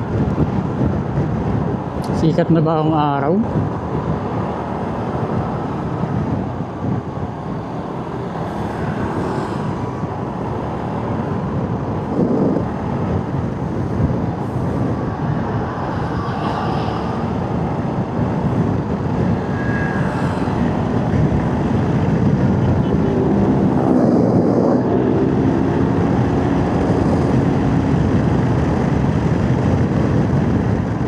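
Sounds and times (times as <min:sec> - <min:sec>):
motorcycle engine and road noise: 0:00.0 - 0:31.0.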